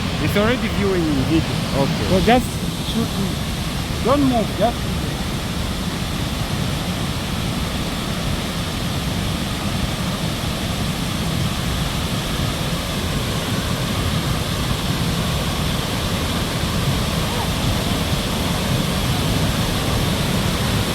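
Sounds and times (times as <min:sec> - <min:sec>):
waterfall roaring: 0:00.0 - 0:20.9.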